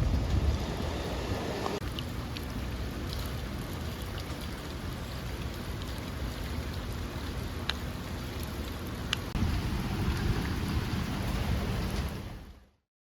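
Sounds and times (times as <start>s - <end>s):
low steady rumble: 0.0s - 12.7s
steady rain falling: 0.0s - 12.8s.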